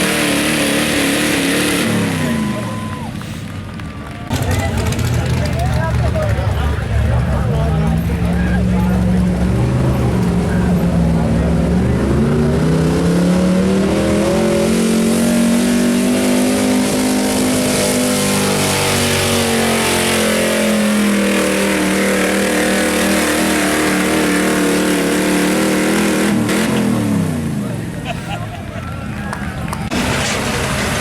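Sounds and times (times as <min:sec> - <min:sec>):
truck engine at high revs: 0:00.0 - 0:28.7, 0:29.3 - 0:31.0.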